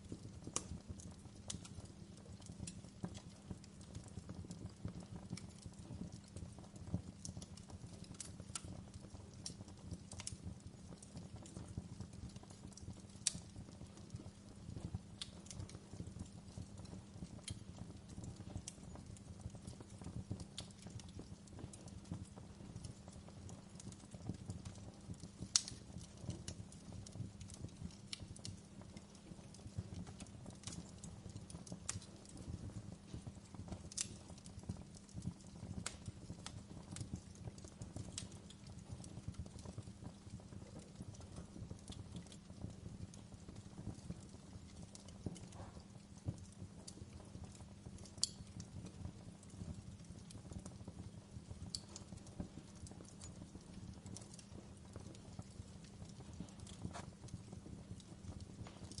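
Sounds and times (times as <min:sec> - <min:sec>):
fire burning in fireplace: 0:00.0 - 0:59.0
loud fire pops: 0:06.9 - 0:49.6, 0:51.7 - 0:59.0.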